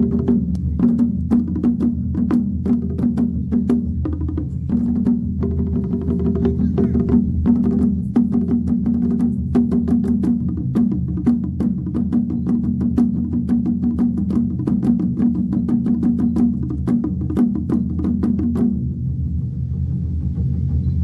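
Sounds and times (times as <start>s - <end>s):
drum ensemble playing: 0.0s - 21.0s.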